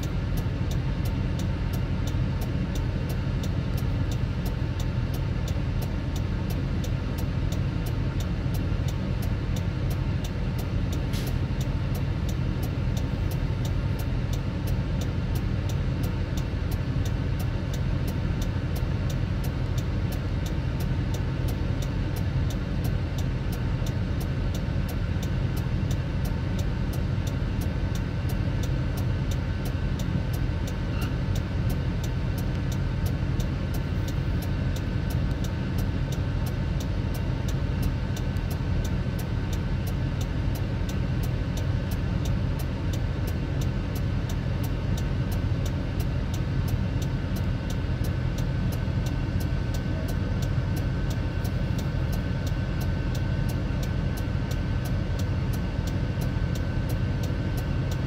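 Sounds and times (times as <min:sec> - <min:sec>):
faint regular ticking: 0:00.0 - 0:58.0.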